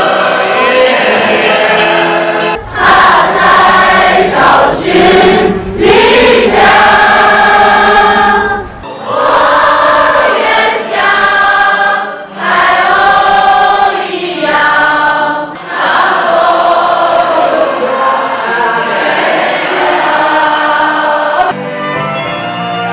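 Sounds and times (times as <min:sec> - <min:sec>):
choir singing: 0:00.0 - 0:21.6.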